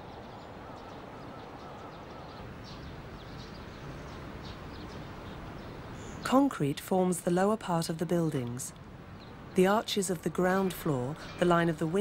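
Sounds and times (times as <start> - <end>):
small birds chirping: 0.0 - 12.0
steady background noise: 0.0 - 12.0.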